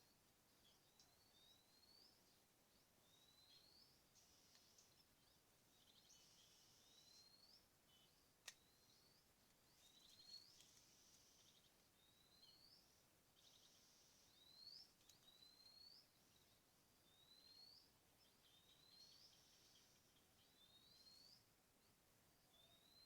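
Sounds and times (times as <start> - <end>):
faint whistled bird calls: 0.0 - 2.2, 3.0 - 5.0, 5.8 - 21.5, 22.4 - 23.0.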